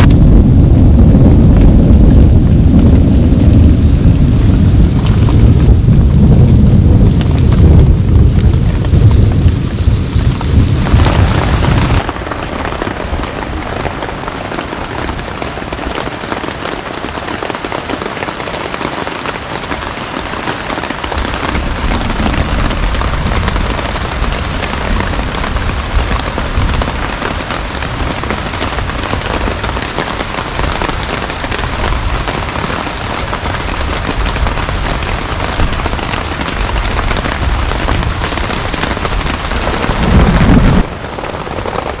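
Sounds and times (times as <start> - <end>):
thunder rumbling: 0.0 - 16.0, 19.3 - 42.0
heavy rain: 0.0 - 42.0.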